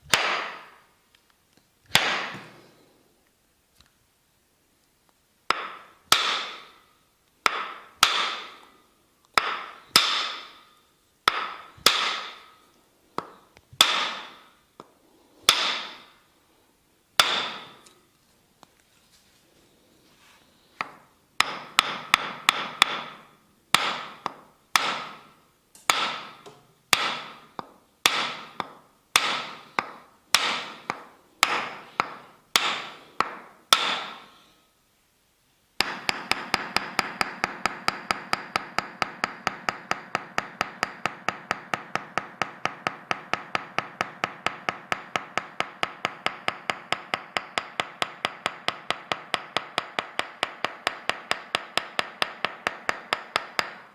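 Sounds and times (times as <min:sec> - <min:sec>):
wooden mallet striking wooden wedge: 0:00.1 - 0:00.8, 0:01.9 - 0:02.5, 0:05.5 - 0:06.8, 0:07.4 - 0:12.6, 0:13.2 - 0:16.2, 0:17.2 - 0:18.0, 0:20.8 - 0:34.4, 0:35.8 - 0:53.9.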